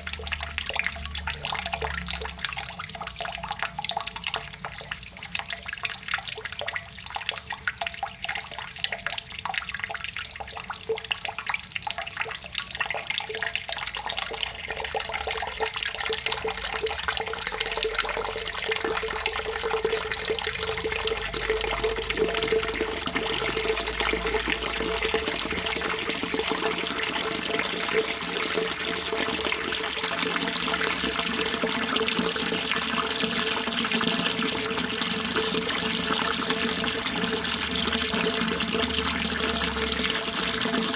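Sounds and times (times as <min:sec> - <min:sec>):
water splashing and trickling: 0:00.0 - 0:40.9.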